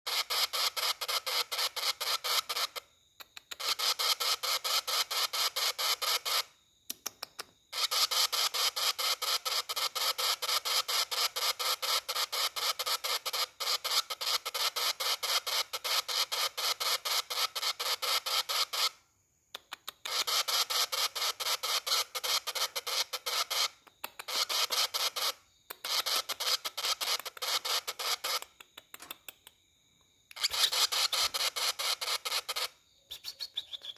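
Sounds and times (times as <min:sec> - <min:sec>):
bird chick pulsed chatter: 0:00.1 - 0:29.7, 0:30.3 - 0:33.9.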